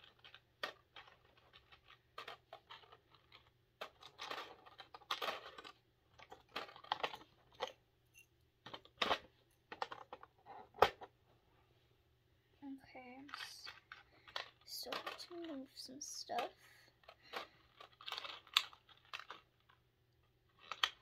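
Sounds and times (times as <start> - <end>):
beads clicking and rattling: 0.0 - 10.3, 13.2 - 21.0.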